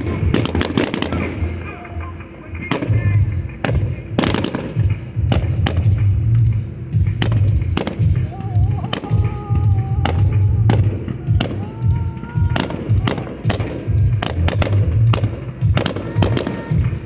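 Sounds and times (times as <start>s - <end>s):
fireworks cracking: 0.0s - 17.0s
deep booming: 2.7s - 17.0s.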